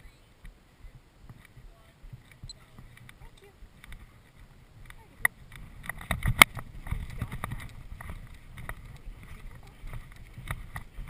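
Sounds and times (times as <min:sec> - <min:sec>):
wind rumbling on camera: 0:00.0 - 0:11.0
horse hooves striking turf: 0:00.8 - 0:11.0.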